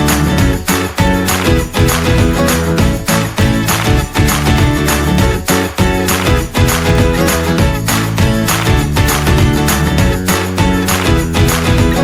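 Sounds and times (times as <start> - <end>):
jingling percussion: 0.0 - 12.0
upbeat music with steady beat: 0.0 - 12.0.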